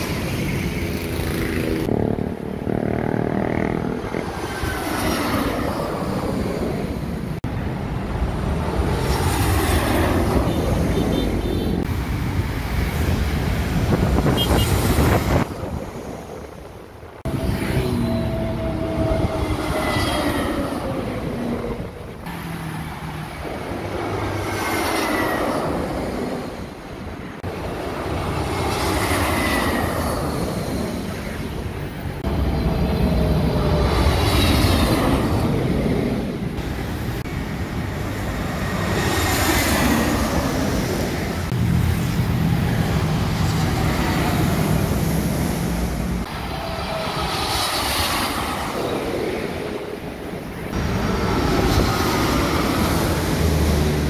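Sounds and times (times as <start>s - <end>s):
vehicles passing by: 0.0s - 54.0s.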